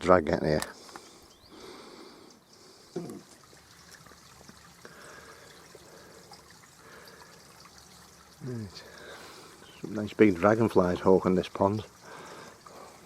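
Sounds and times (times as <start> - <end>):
small stream trickling: 0.8 - 13.0.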